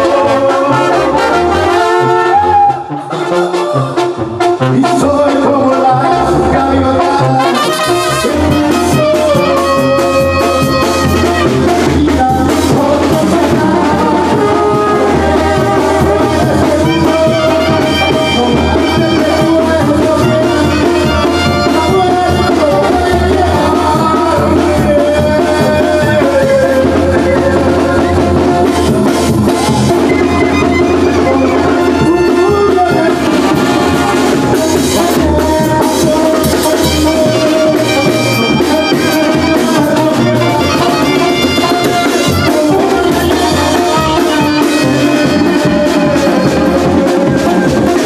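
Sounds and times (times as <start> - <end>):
brass band playing dance music: 0.0 - 48.0.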